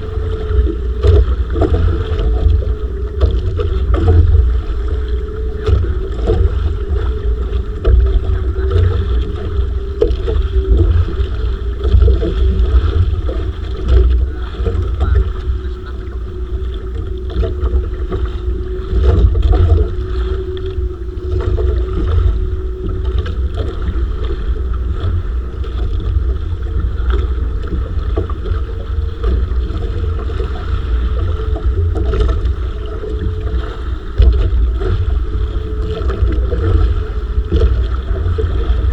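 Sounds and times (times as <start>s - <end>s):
boat engine running: 0.0s - 38.9s
wind buffeting microphone: 0.0s - 38.9s.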